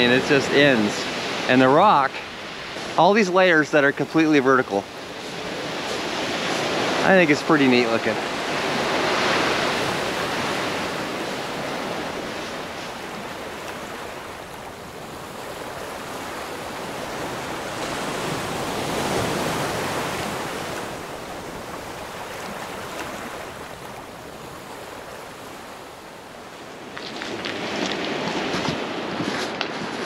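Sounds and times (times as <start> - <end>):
surf washing up pebble beach: 0.0 - 30.0.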